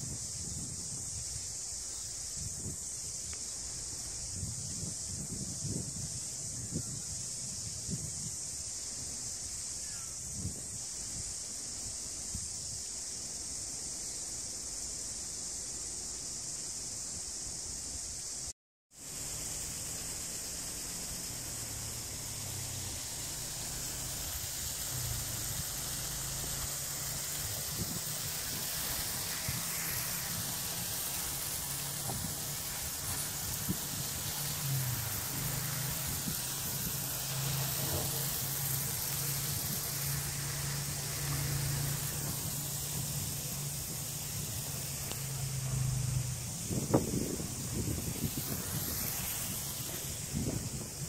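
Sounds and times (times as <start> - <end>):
sprinklers spraying water: 0.0 - 51.0.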